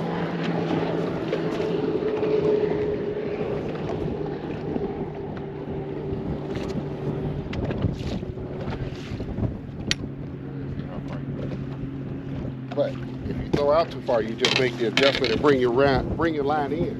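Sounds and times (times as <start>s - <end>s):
gusty wind buffeting microphone: 0.0s - 16.9s
steady low hum: 0.0s - 16.9s.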